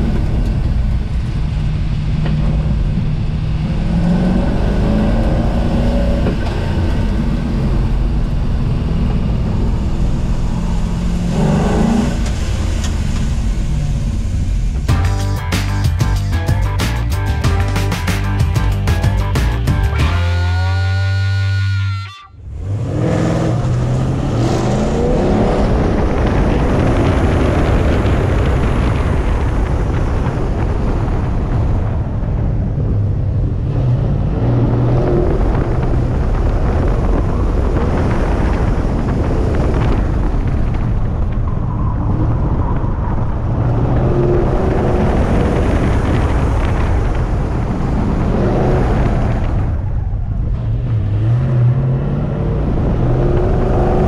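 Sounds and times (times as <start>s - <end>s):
wind noise: 0.0s - 20.9s, 21.7s - 54.0s
car engine running hard: 0.0s - 21.2s, 22.4s - 54.0s
road noise: 0.0s - 54.0s.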